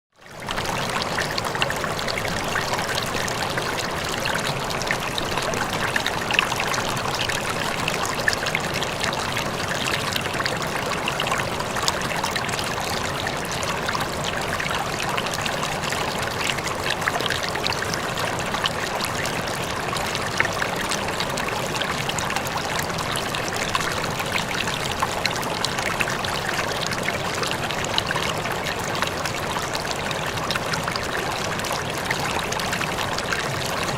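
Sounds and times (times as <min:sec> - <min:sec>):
river water flowing over rocks: 0:00.3 - 0:33.9.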